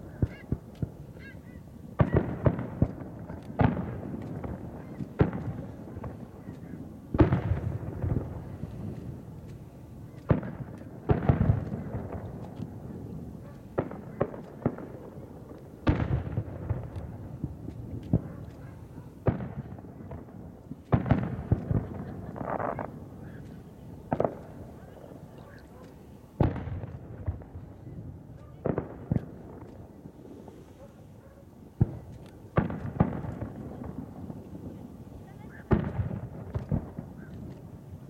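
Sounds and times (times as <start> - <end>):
fireworks bursting with echo: 0.0 - 38.0.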